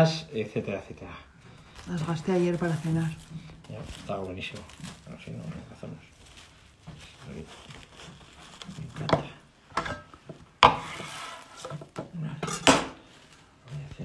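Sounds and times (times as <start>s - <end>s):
plastic film crinkling and tearing: 1.5s - 12.0s, 13.0s - 14.0s.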